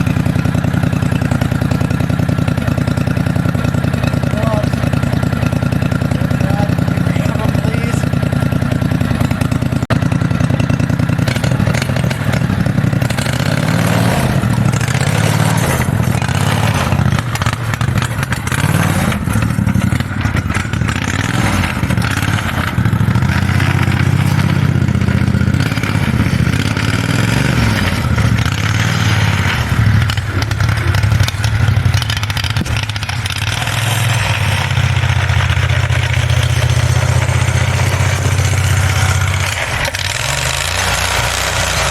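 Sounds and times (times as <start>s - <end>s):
mini bike engine revving: 0.0s - 41.9s.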